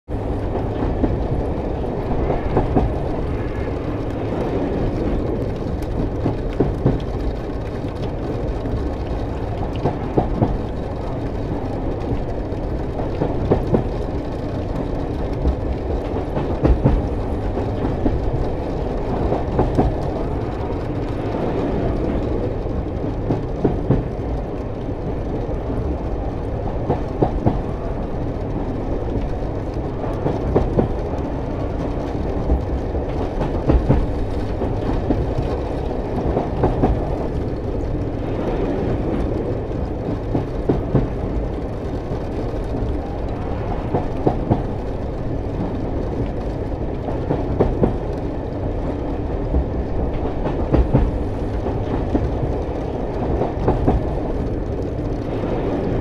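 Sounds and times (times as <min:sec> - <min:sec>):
freight train rumble: 0:00.0 - 0:56.0
wheels clicking on rails: 0:00.1 - 0:56.0.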